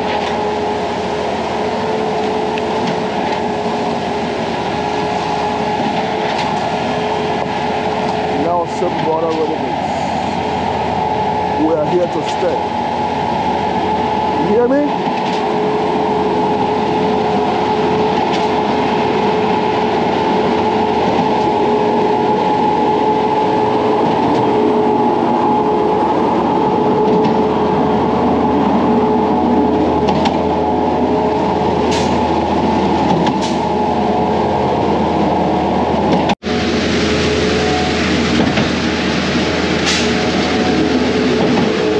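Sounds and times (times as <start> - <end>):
diesel truck engines droning: 0.0 - 41.9.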